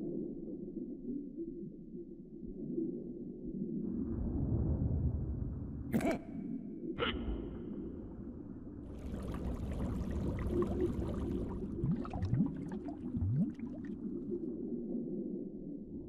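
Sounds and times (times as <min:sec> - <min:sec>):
underwater rumble with bubbling: 0:00.0 - 0:16.0.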